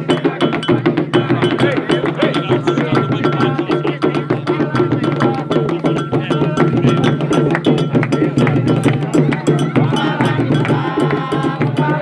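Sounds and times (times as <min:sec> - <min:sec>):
fast hand drumming: 0:00.0 - 0:12.0
struck bell beat: 0:00.0 - 0:12.0
voices singing a chant: 0:00.0 - 0:12.0.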